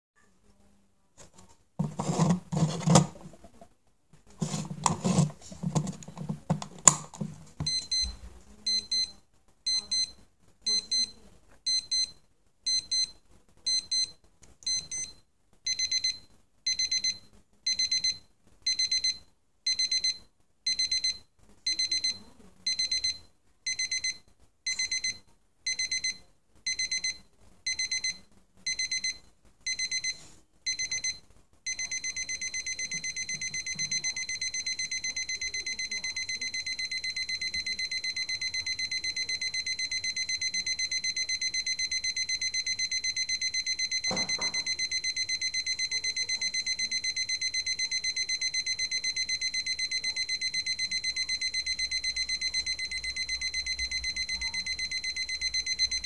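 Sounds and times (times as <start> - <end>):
alarm clock beeping: 1.8 - 3.3, 4.4 - 8.1, 8.7 - 9.1, 9.7 - 10.1, 10.7 - 11.1, 11.7 - 12.1, 12.7 - 13.1, 14.7 - 15.1, 15.7 - 56.0.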